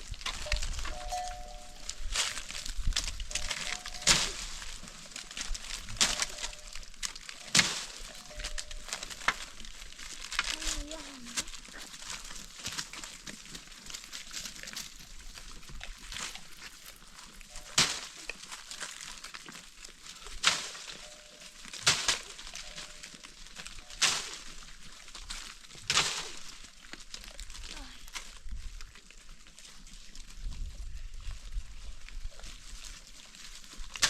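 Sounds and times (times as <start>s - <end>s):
crackling rustle: 0.0s - 34.0s.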